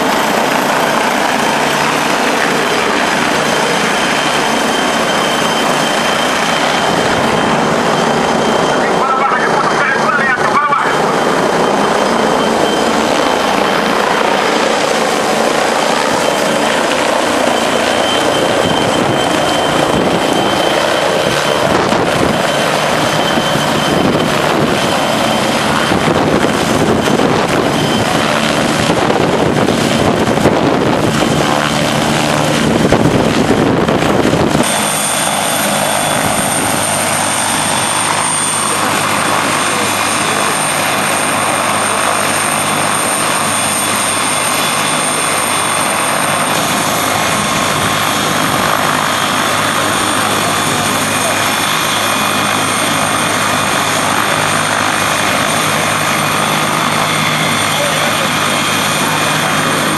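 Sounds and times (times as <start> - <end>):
helicopter rotor and engine: 0.0 - 59.9
high steady whine: 0.0 - 59.9.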